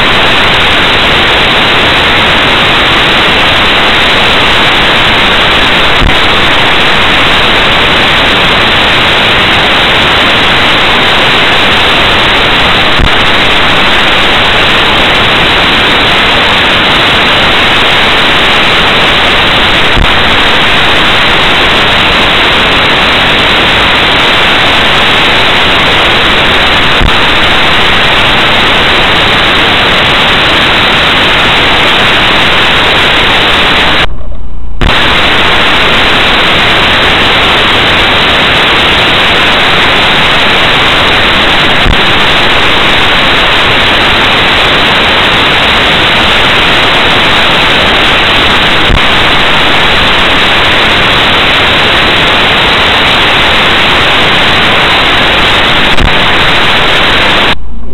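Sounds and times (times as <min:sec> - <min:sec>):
static hiss: 0:00.0 - 0:57.9.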